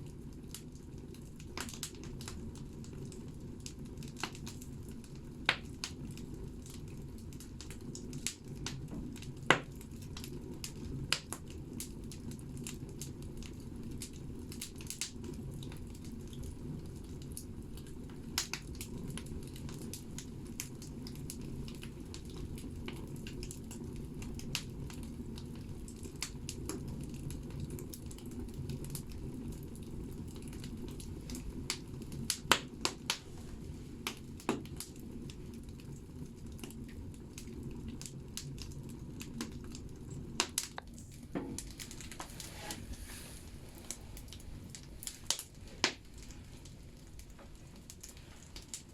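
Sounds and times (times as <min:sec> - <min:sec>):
low rumble of fire: 0:00.0 - 0:48.9
wood crackling and popping: 0:00.0 - 0:48.9.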